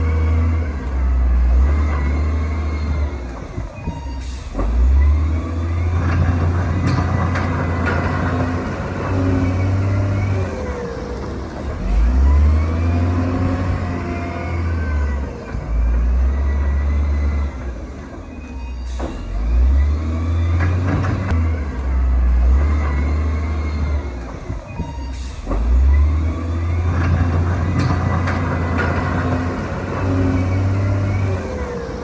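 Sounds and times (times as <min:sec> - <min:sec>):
heavy diesel engine rumbling: 0:00.0 - 0:32.0.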